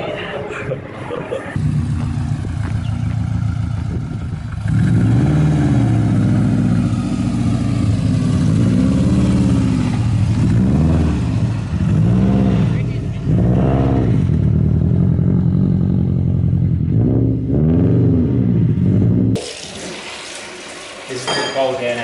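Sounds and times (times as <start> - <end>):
car engine revving: 1.6 - 19.4.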